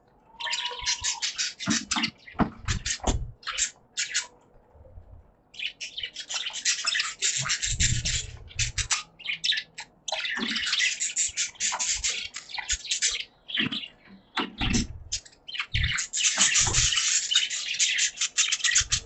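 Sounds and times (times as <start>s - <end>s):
budgerigars chattering and chirping: 0.3s - 4.4s, 5.6s - 19.0s.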